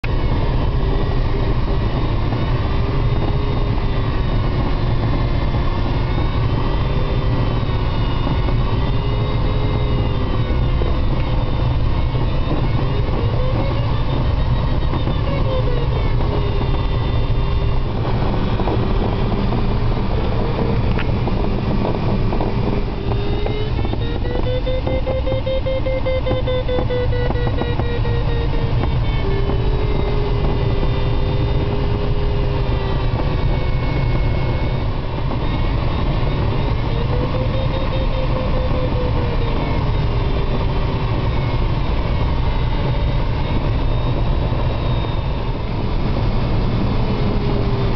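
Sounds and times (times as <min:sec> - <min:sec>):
airflow rushing around cockpit: 0:00.0 - 0:47.9
wavering electronic tone: 0:00.0 - 0:47.9.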